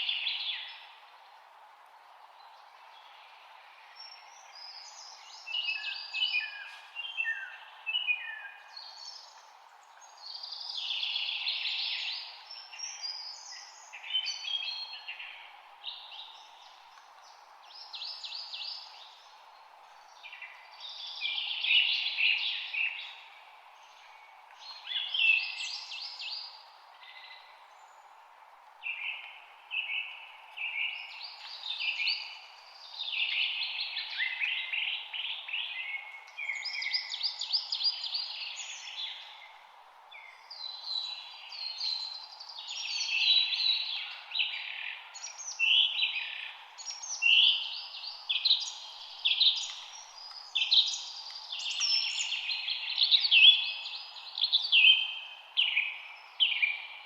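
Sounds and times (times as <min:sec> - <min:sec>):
background hiss: 0:00.0 - 0:57.0
songbird chirping and trilling: 0:02.6 - 0:28.1, 0:28.8 - 0:57.0.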